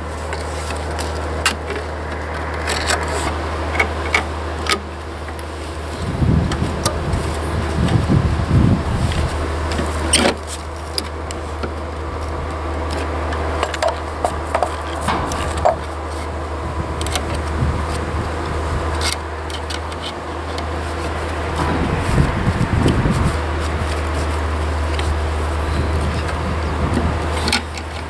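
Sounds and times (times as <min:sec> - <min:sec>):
steady low hum: 0:00.0 - 0:28.0
knocks and scraping on wood: 0:00.2 - 0:05.5, 0:09.0 - 0:28.0.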